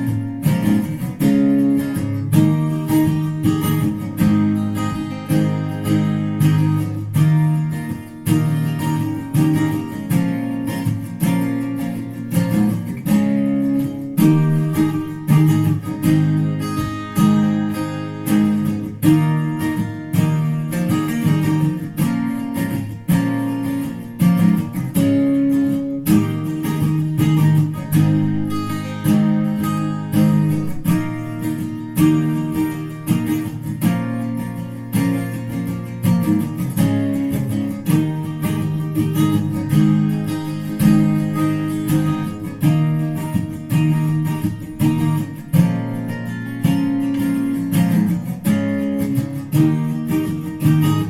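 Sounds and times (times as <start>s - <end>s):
acoustic guitar strumming: 0.0s - 51.0s.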